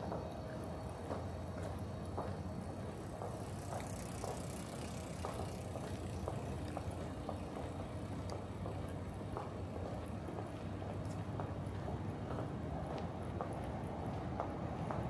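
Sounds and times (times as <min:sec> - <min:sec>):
city street traffic rumble: 0:00.0 - 0:15.0
footsteps walking: 0:00.0 - 0:15.0.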